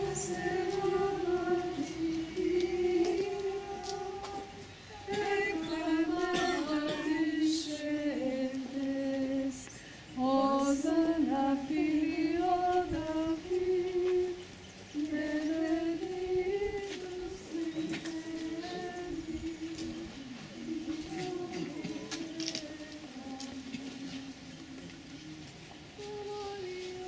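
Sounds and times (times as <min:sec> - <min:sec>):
women singing chant in unison: 0:00.0 - 0:27.0.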